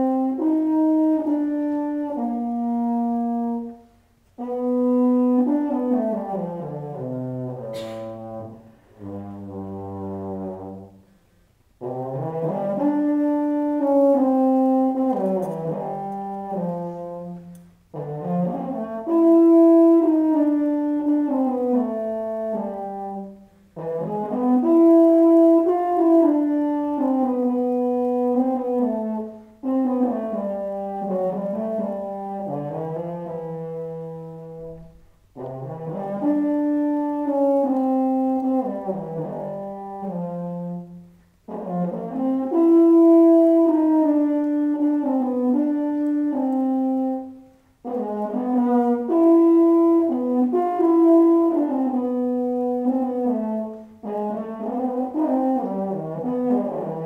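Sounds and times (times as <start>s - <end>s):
euphonium melody: 0.0s - 11.2s, 11.8s - 57.0s.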